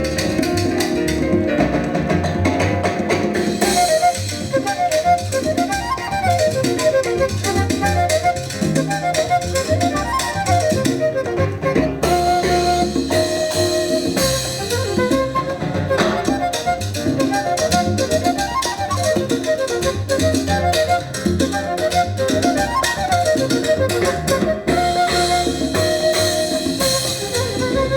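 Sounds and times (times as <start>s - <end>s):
latin jazz ensemble playing: 0.0s - 27.9s.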